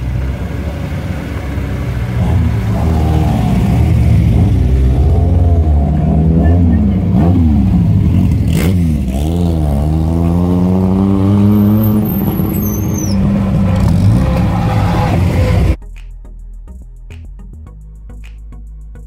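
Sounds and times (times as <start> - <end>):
rally car engines running: 0.0 - 15.8.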